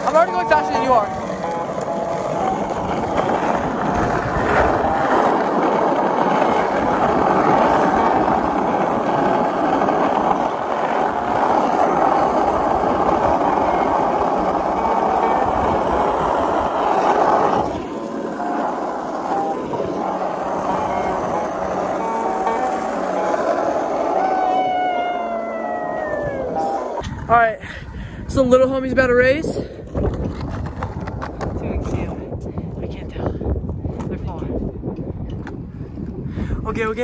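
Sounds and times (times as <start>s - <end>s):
skateboard wheels rolling on asphalt: 0.0s - 37.0s.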